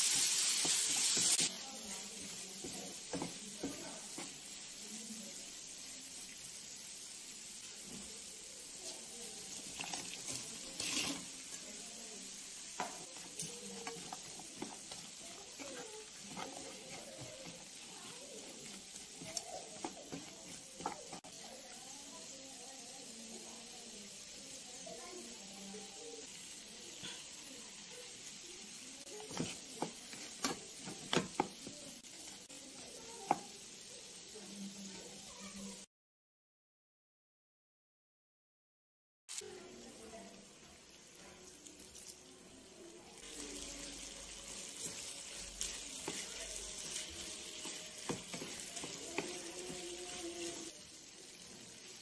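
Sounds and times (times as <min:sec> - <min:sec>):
spatula stirring a pan: 0:00.0 - 0:35.6, 0:39.4 - 0:52.0
sauce sizzling in a frying pan: 0:00.0 - 0:35.9, 0:39.3 - 0:52.0.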